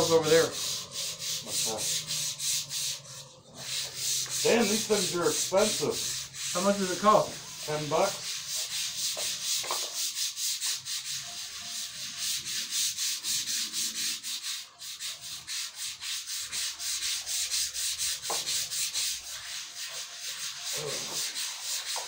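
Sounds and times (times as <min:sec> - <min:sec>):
sandpaper scraping wood: 0:00.0 - 0:22.0.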